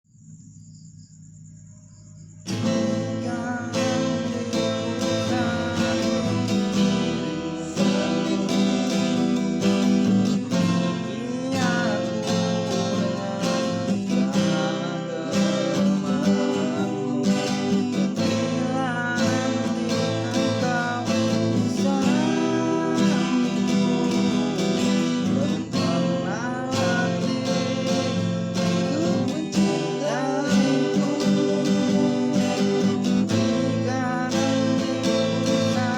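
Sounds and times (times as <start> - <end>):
acoustic guitar strumming: 2.4 - 35.9
person singing: 2.5 - 35.9.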